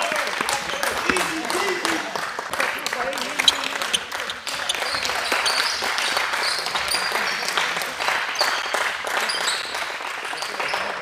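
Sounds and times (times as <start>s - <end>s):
group clapping: 0.0s - 11.0s.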